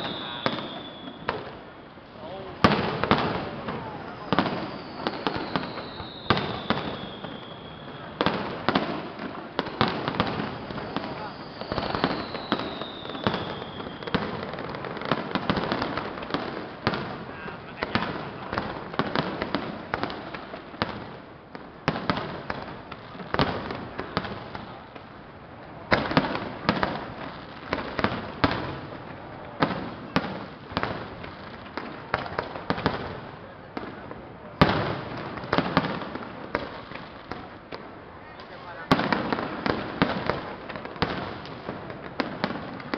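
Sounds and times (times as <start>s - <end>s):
heavy firework bangs: 0.0s - 25.1s, 25.7s - 42.9s
fireworks crackling: 0.0s - 42.9s.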